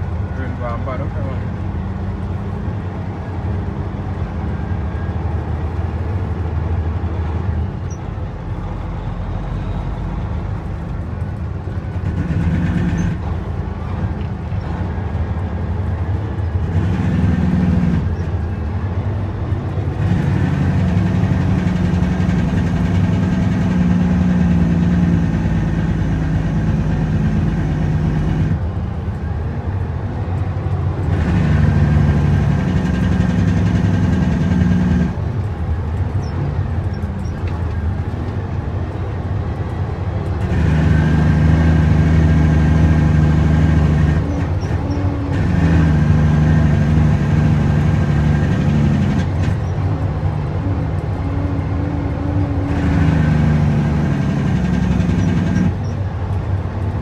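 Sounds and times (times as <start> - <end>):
diesel truck engine from inside cab: 0.0 - 57.0.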